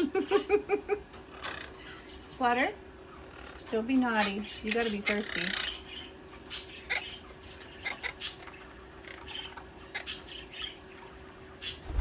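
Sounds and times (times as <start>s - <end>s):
parrots chirping and calling: 1.2s - 12.0s.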